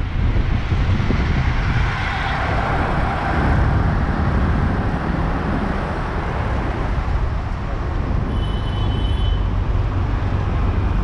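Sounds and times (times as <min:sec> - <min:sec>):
traffic road noise rumble: 0:00.0 - 0:11.0.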